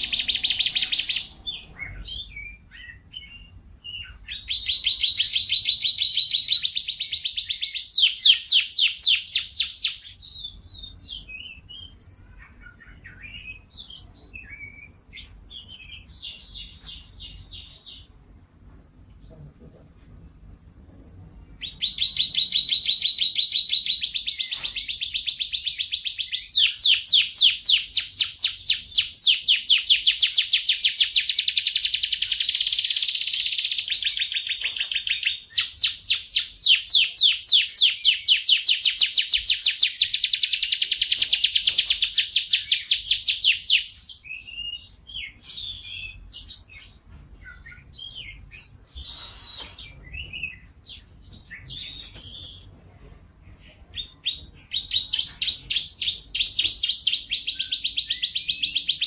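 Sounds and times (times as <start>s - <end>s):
soft bird twittering: 0.0s - 18.1s, 21.5s - 52.7s
canary singing trills: 0.0s - 18.2s, 21.4s - 52.7s, 53.5s - 59.0s.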